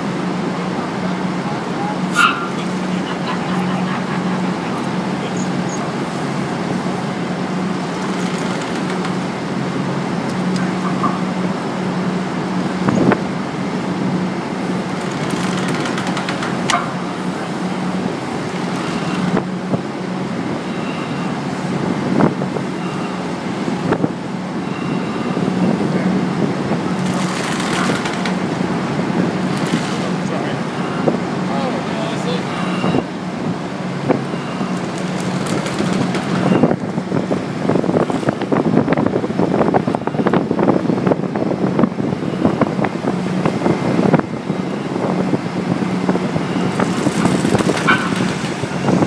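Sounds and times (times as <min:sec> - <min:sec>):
engine drone: 0:00.0 - 0:49.0.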